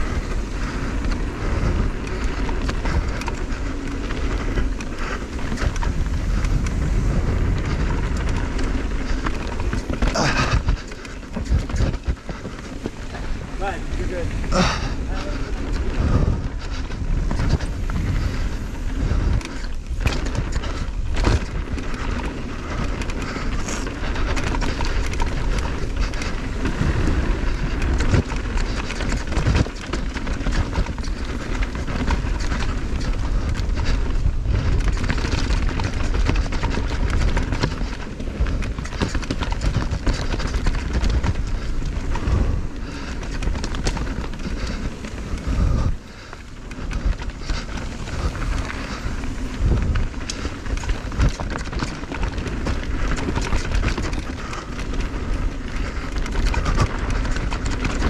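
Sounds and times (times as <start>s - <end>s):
bike rattling and knocking: 0.0s - 58.0s
bike tyres rumbling: 0.0s - 58.0s
wind buffeting microphone: 0.0s - 58.0s.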